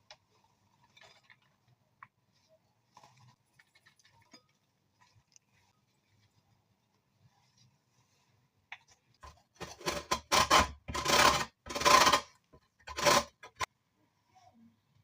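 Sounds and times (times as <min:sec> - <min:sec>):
food scraping strokes: 0:00.0 - 0:13.7.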